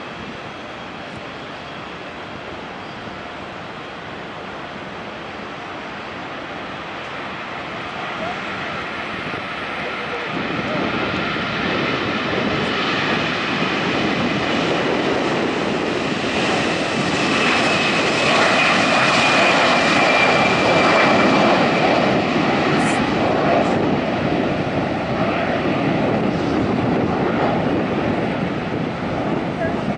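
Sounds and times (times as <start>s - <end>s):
jet engines roaring at takeoff: 0.0s - 29.9s.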